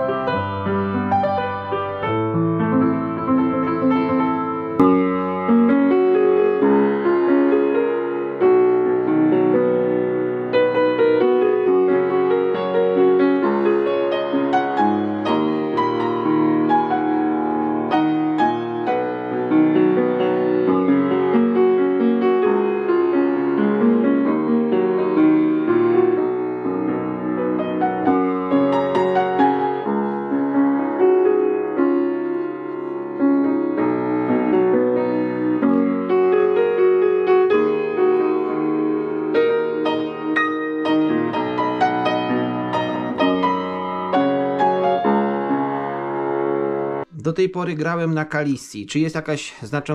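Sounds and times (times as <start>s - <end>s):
upright piano playing: 0.0s - 49.9s.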